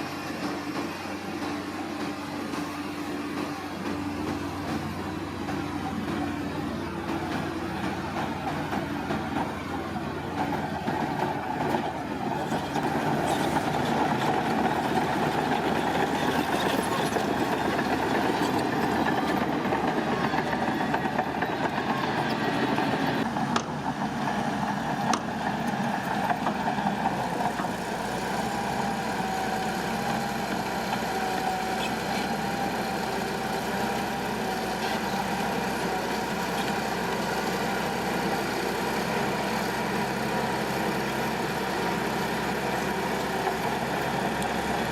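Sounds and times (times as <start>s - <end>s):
heavy machinery diesel engine: 0.0s - 44.9s.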